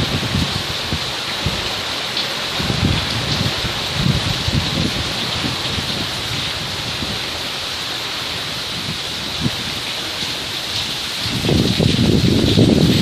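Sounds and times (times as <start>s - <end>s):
raindrops knocking close by: 0.0s - 13.0s
steady rain hiss: 0.0s - 13.0s.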